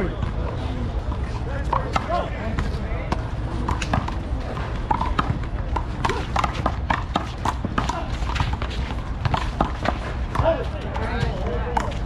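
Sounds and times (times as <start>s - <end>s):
faint voices: 0.0s - 12.0s
ball hits and bounces: 0.1s - 12.0s.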